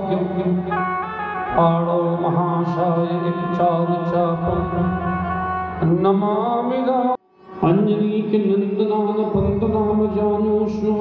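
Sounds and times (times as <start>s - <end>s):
sung devotional melody: 0.0s - 11.0s.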